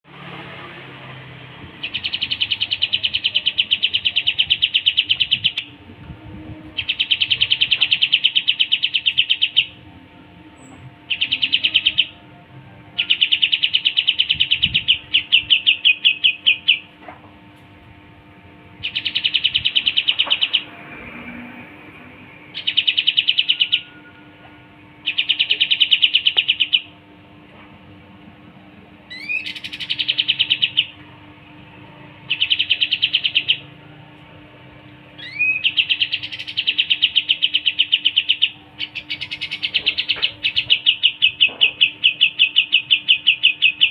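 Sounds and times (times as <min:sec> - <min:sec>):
faint steady hum: 0:00.2 - 0:43.9
songbird buzzy trills: 0:01.8 - 0:17.0, 0:17.9 - 0:27.2, 0:29.0 - 0:33.9, 0:34.6 - 0:43.9.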